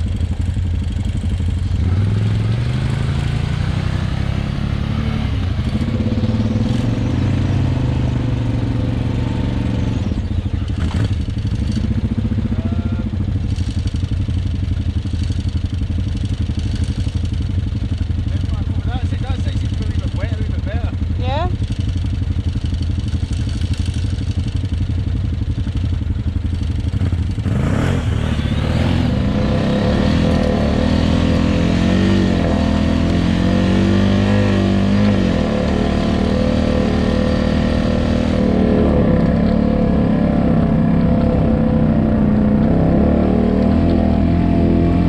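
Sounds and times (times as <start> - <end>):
quad bike engine revving: 0.0 - 45.0.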